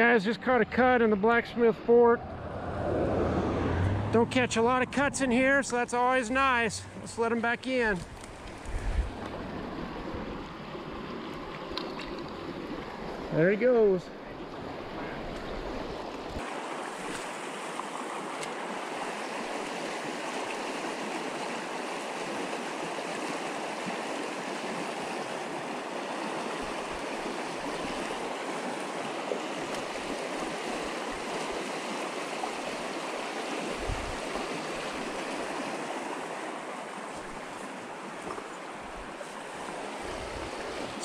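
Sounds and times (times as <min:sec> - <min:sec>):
stream rushing over rocks: 0:03.7 - 0:41.0.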